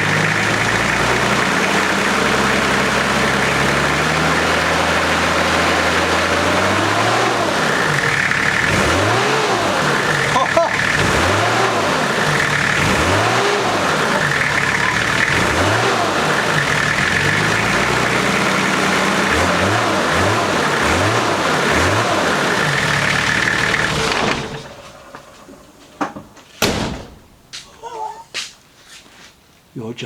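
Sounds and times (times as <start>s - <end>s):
diesel engine revving: 0.0s - 25.7s.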